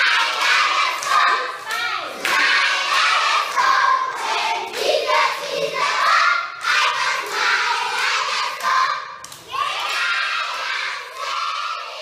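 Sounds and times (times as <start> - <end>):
children singing: 0.0 - 12.0
hands clapping: 0.0 - 12.0.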